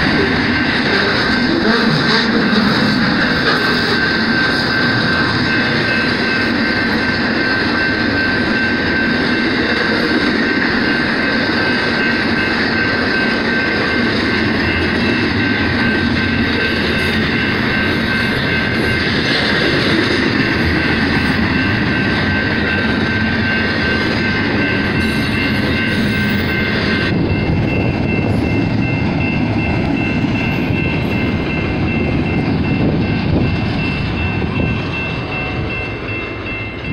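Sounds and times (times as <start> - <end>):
freight train rumbling past: 0.0 - 36.9
high ringing tone: 0.0 - 36.9.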